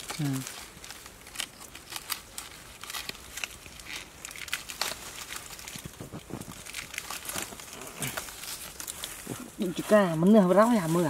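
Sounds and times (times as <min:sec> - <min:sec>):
stiff leaves rustling and crackling: 0:00.0 - 0:11.0.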